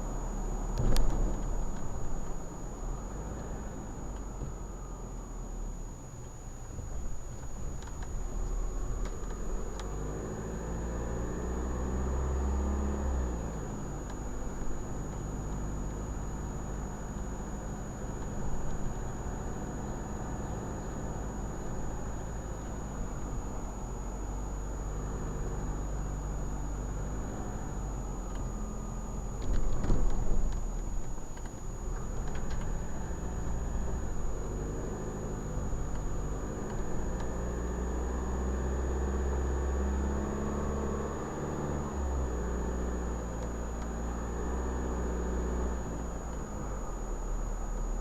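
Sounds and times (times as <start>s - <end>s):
tyre and road noise: 0.0s - 5.0s, 6.6s - 48.0s
car engine humming: 0.0s - 48.0s.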